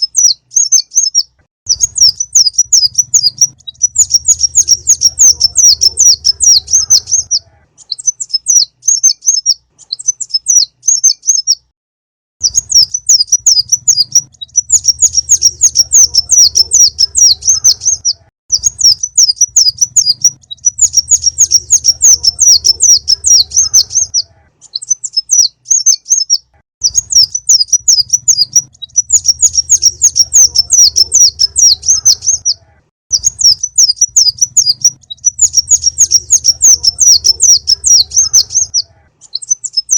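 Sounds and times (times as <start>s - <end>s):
bird chirping trills: 0.0s - 11.7s, 12.4s - 39.9s.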